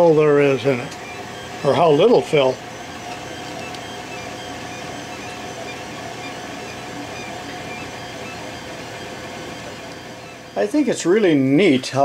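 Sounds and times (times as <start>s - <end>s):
high motor whines: 0.0s - 12.0s
three d printer whirring: 0.0s - 12.0s.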